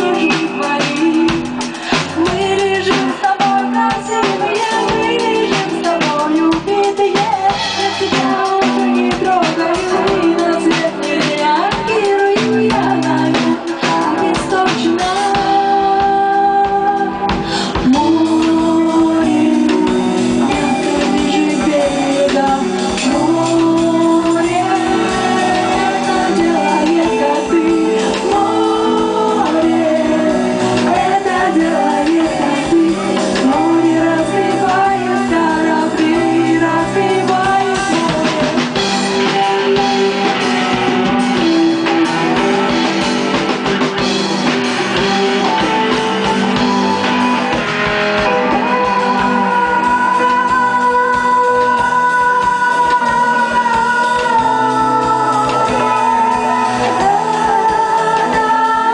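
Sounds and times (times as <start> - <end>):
bass guitar: 0.0 - 58.9
drum kit: 0.0 - 58.9
electric guitar: 0.0 - 58.9
woman singing lead vocal: 0.0 - 58.9.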